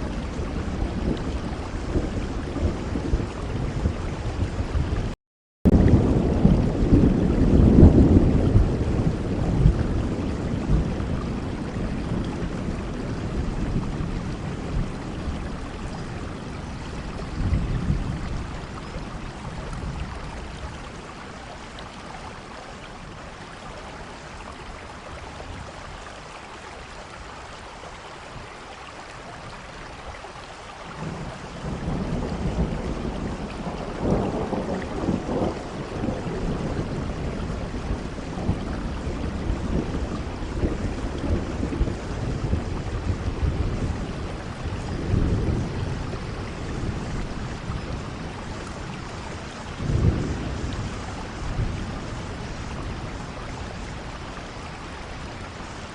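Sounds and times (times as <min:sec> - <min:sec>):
rolling thunder: 0:00.0 - 0:22.3, 0:31.0 - 0:55.9
steady rain: 0:00.0 - 0:55.9.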